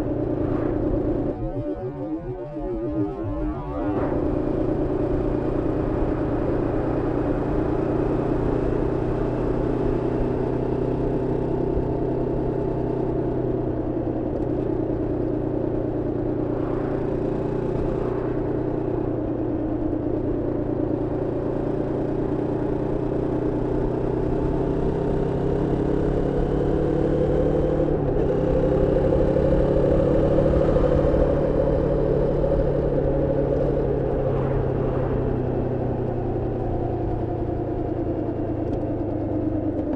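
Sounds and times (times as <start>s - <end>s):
motorcycle engine running: 3.9s - 39.9s.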